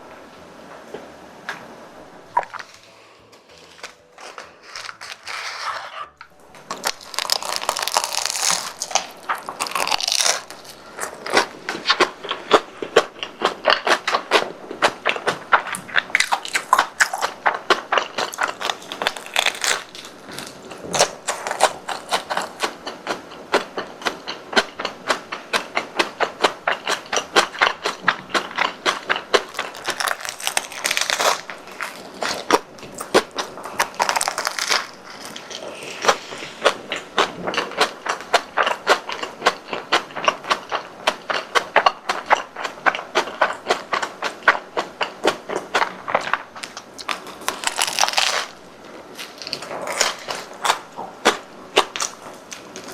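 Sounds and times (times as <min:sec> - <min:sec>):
crunchy chewing: 0:02.3 - 0:52.9.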